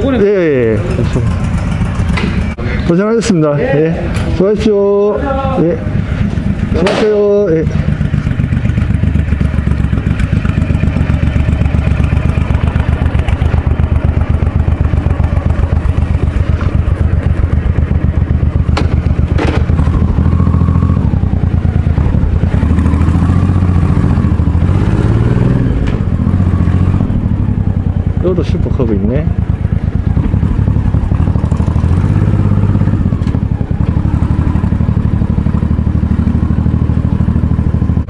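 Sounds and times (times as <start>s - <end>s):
motorcycle engine idling and pulling away: 0.0s - 4.6s, 5.2s - 38.0s.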